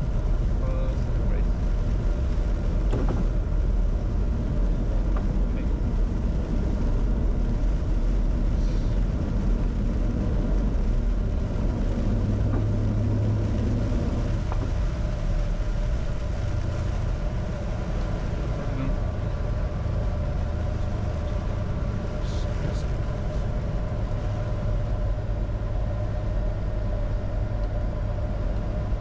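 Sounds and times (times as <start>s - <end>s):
airflow around aircraft nose: 0.0s - 29.0s
jet engines rumbling in cockpit: 0.0s - 29.0s.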